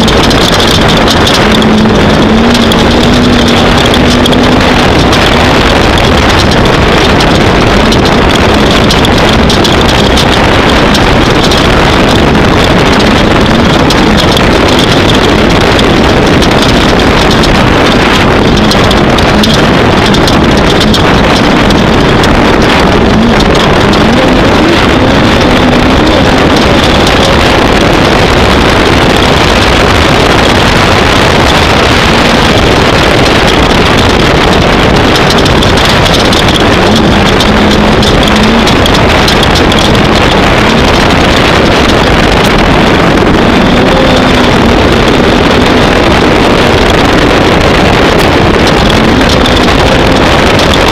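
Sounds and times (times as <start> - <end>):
engine running hard: 0.0 - 50.9
wind noise on microphone: 0.0 - 50.9.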